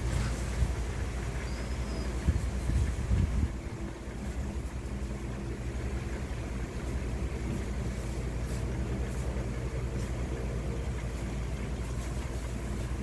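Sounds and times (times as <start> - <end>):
faint rustles: 0.0 - 13.0
low machine hum: 0.0 - 13.0.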